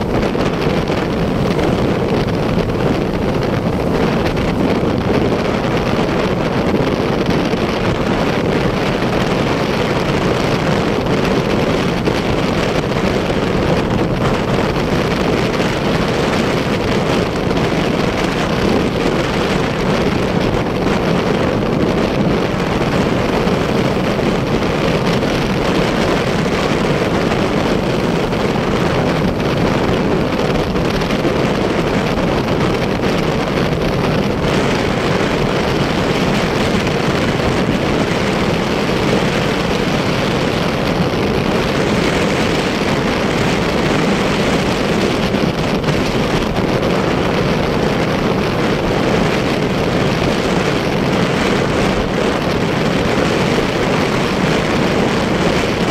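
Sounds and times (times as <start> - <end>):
motorcycle engine: 0.0 - 55.9
road noise: 0.0 - 55.9
wind rush over microphone: 0.0 - 55.9.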